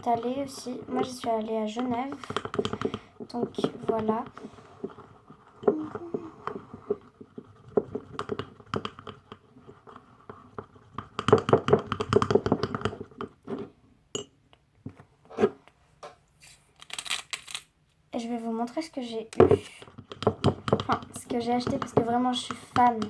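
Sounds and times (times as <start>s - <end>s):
objects being handled: 0.0s - 18.0s, 19.1s - 23.0s.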